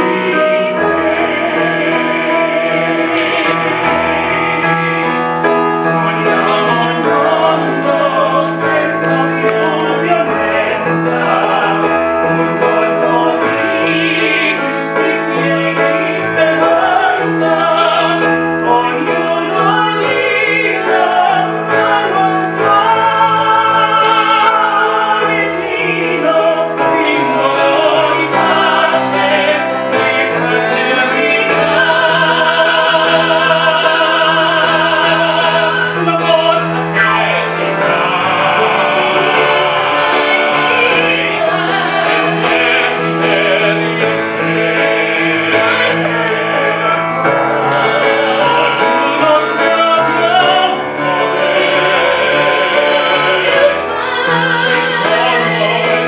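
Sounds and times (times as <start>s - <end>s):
instrumental accompaniment: 0.0s - 56.0s
man and woman singing a hymn: 0.0s - 56.0s.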